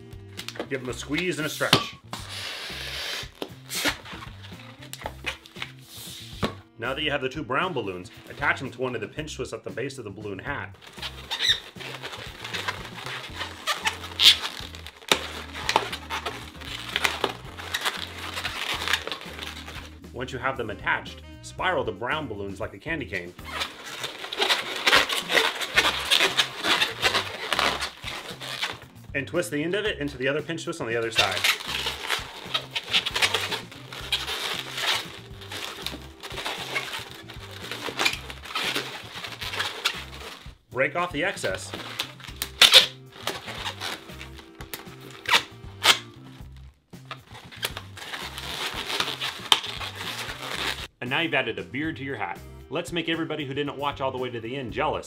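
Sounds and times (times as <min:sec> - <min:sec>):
balloons squeaking and rubbing: 0:00.0 - 0:06.6, 0:07.9 - 0:08.7, 0:10.7 - 0:21.0, 0:23.0 - 0:29.1, 0:30.2 - 0:50.9
background music with bass: 0:00.0 - 0:55.0.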